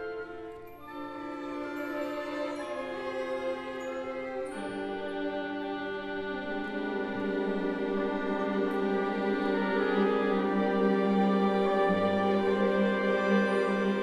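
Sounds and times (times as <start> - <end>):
orchestra playing held chords: 0.0 - 14.0.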